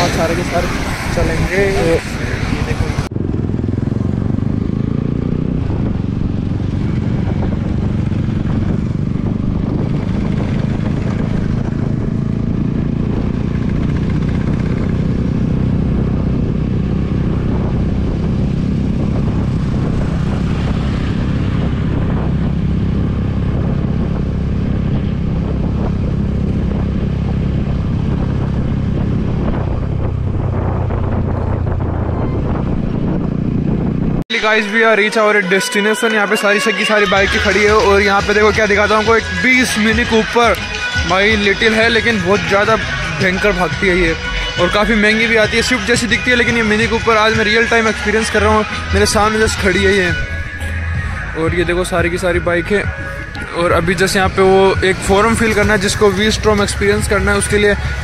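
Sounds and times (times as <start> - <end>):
motorcycle engine cruising: 0.0 - 34.4, 36.7 - 58.0.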